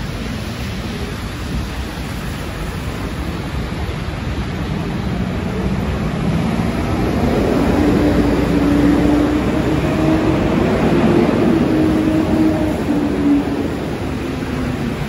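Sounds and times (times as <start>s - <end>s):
heavy vehicle engines running: 0.0s - 15.0s
tyres on wet slush: 0.1s - 15.0s.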